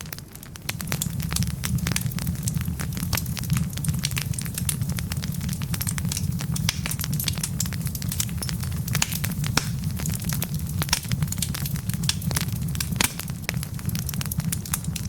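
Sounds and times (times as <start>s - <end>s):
logs crackling and popping: 0.0s - 15.0s
low fire rumble: 0.0s - 15.0s.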